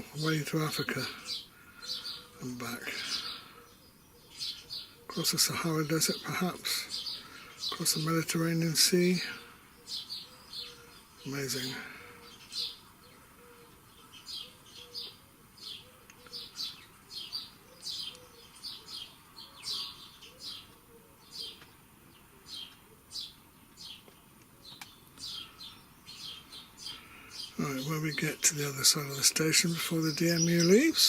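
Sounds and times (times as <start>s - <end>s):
songbird chirping from recording: 0.0s - 31.0s.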